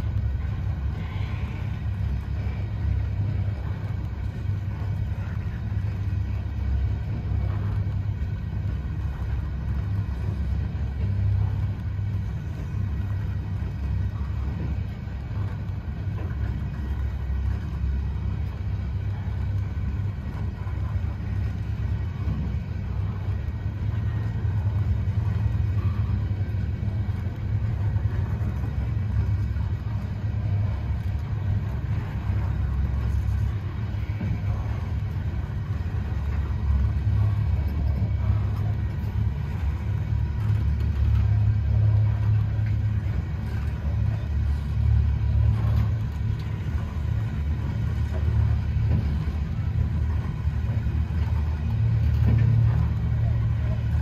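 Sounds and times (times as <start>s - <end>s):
freight train cars rumbling past: 0.0s - 54.0s.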